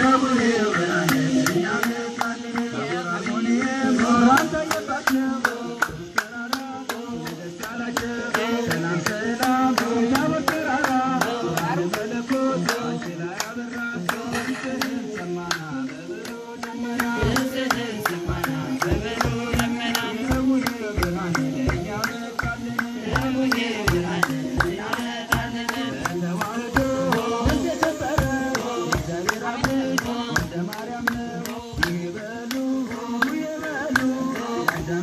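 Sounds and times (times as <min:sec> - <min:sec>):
women clapping a steady beat: 0:00.0 - 0:35.0.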